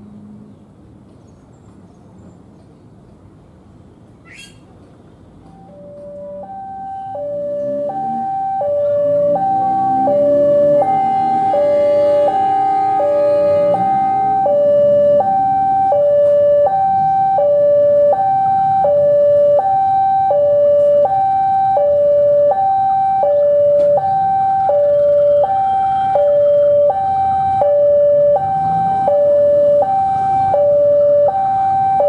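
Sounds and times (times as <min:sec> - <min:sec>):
two-tone electronic alarm: 0:05.5 - 0:32.0.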